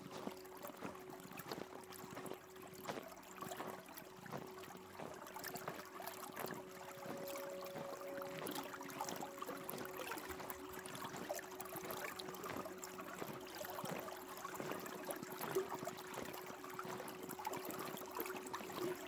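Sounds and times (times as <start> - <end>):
faint steady drone: 0.0 - 19.0
water splashing against rocks: 0.0 - 19.0.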